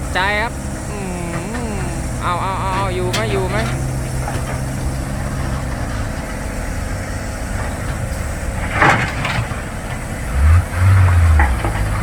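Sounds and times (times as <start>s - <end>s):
truck diesel engine labouring: 0.0s - 12.0s.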